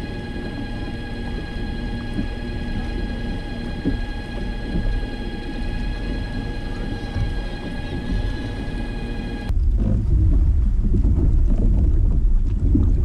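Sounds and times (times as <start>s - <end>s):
kayak drive whine: 0.0s - 13.0s
water along hull: 0.0s - 13.0s
wind on microphone: 0.0s - 13.0s.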